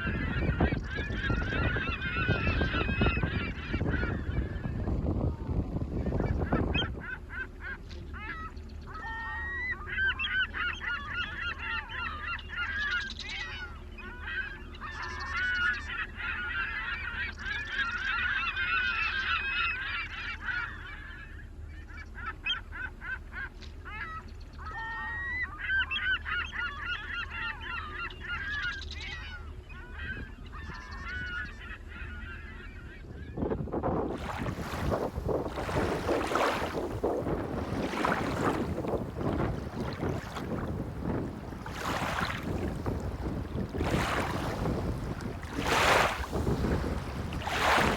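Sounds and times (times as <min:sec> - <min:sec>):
geese honking: 0:00.0 - 0:05.3, 0:06.0 - 0:33.6, 0:34.2 - 0:47.9
steady low hum: 0:00.0 - 0:47.9.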